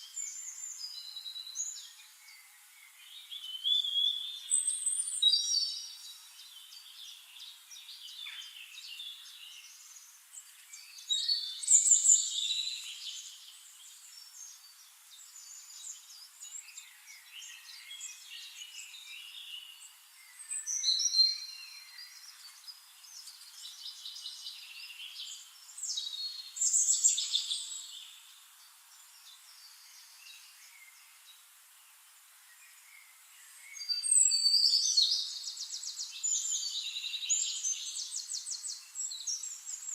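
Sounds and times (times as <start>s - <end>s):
birds chirping and trilling: 0.0s - 39.9s
faint hiss: 0.0s - 39.9s.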